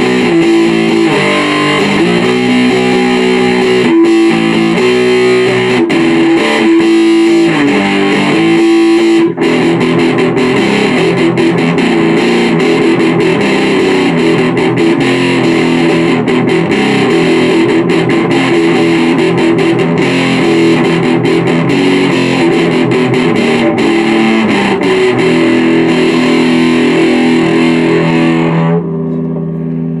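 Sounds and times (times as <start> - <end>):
distorted electric guitar: 0.0 - 30.0.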